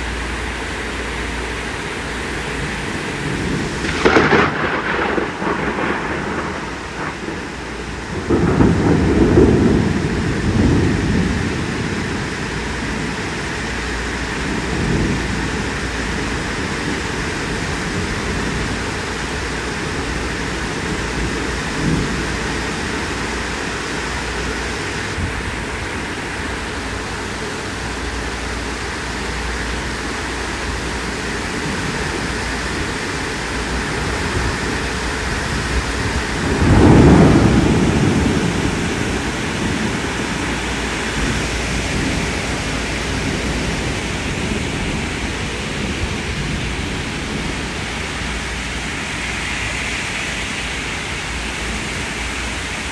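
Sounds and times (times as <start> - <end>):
heavy rain: 0.0 - 52.9
thunder rumbling: 0.0 - 52.9.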